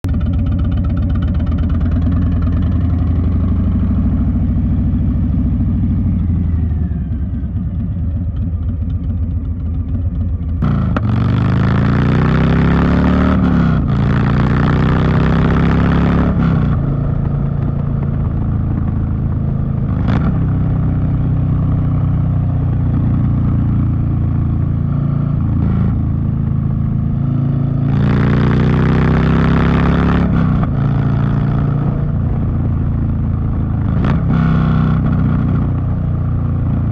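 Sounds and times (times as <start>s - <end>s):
motorcycle engine revving: 0.1s - 36.9s.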